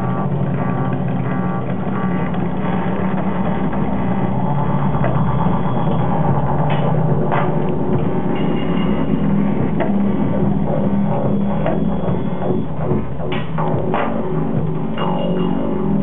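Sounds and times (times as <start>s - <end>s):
deep rumble: 0.0s - 16.0s
electronic drone hum: 0.0s - 16.0s.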